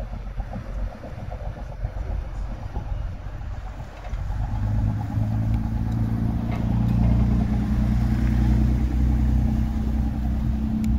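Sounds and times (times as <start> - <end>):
engine running at low revs: 0.0 - 10.9.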